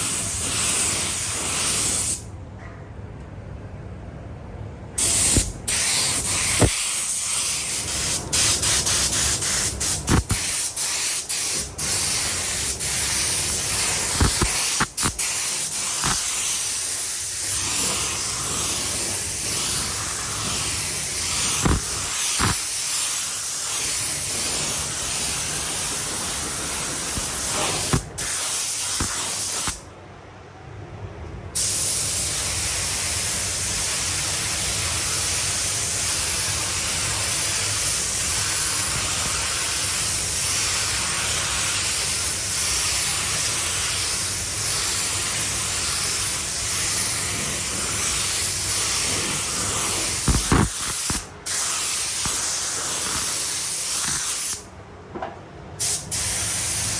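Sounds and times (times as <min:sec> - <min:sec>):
paint spray gun hissing: 0:00.0 - 0:02.2, 0:05.0 - 0:29.8, 0:31.6 - 0:54.7, 0:55.8 - 0:56.9.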